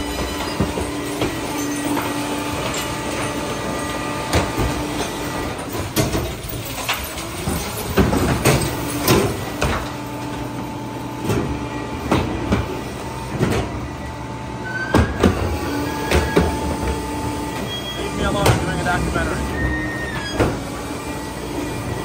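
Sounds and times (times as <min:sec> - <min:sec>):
carts clanking against hopper: 0:00.0 - 0:22.0
garbage truck running: 0:00.0 - 0:22.0.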